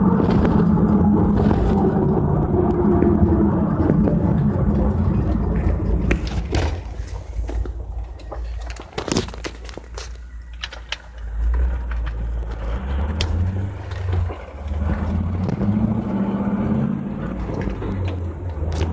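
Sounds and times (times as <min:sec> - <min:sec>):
low rear-end drone: 0:00.0 - 0:08.7, 0:10.2 - 0:18.9
car engine rumble: 0:00.0 - 0:18.9.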